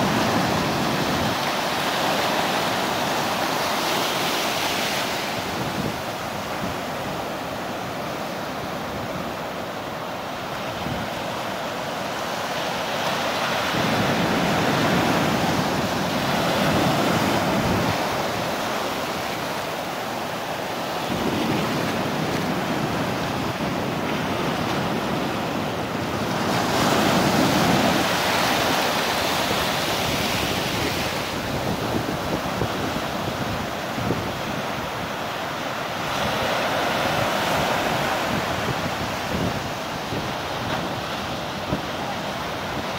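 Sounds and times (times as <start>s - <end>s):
ocean surf breaking on shore: 0.0s - 42.9s.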